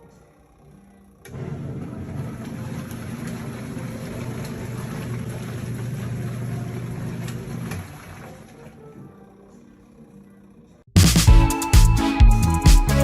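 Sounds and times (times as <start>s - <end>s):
washing machine motor hum and churn: 0.0s - 10.9s.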